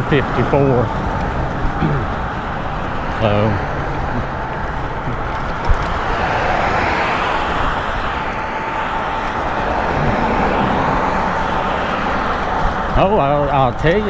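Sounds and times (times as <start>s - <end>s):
thin electric motor whine: 0.0s - 13.0s
road noise: 0.0s - 14.0s
wind rushing over microphone: 0.0s - 14.0s.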